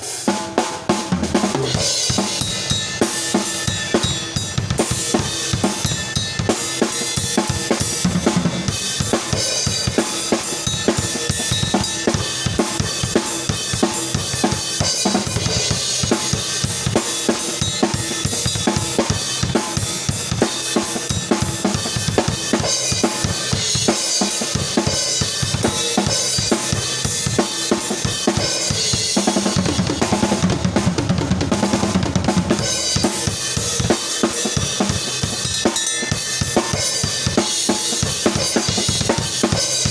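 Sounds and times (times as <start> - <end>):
drum kit playing groove: 0.0 - 39.9.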